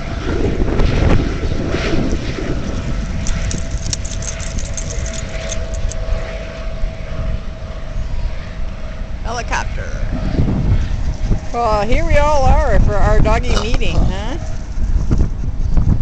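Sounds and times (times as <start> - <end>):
helicopter engine and rotor rumble: 0.0 - 15.4
wind on microphone: 0.0 - 16.0.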